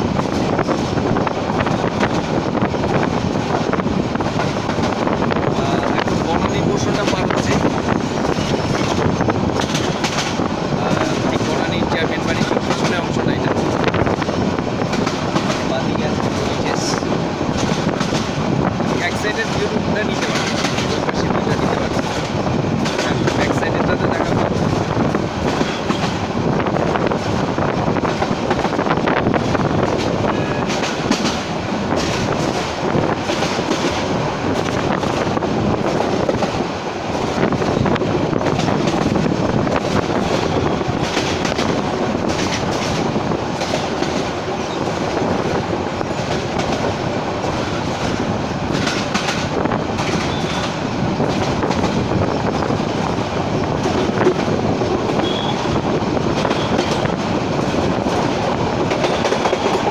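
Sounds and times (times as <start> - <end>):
train rumble: 0.0 - 59.9
wheels clattering over rail joints: 5.8 - 26.4, 28.0 - 59.9.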